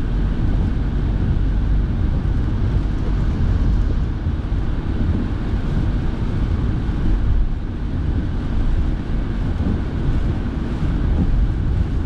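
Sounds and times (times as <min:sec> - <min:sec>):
engine and tyre rumble: 0:00.0 - 0:12.0
heater fan blowing: 0:00.0 - 0:12.0.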